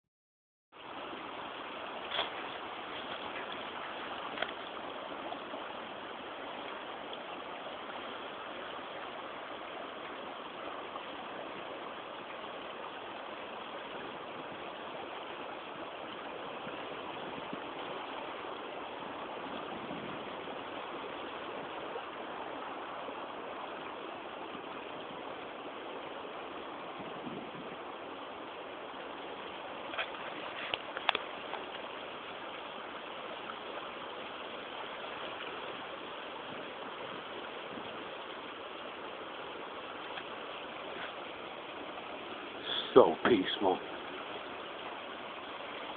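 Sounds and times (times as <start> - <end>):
river water rushing over rocks: 0.8 - 45.9.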